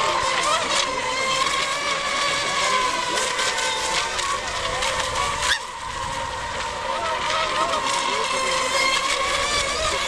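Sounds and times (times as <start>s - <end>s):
model boat motor whine: 0.0s - 10.0s.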